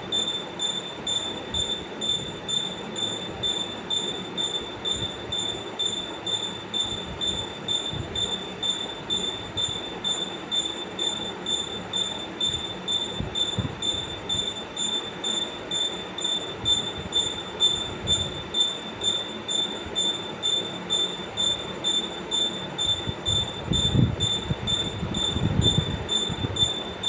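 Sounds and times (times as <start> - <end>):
pulsing mechanical squeal: 0.0 - 27.0.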